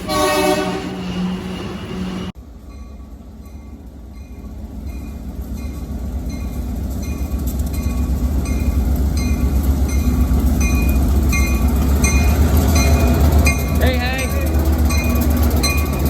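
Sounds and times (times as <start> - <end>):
railroad bell ringing: 0.0 - 16.0
train rumble: 0.0 - 16.0.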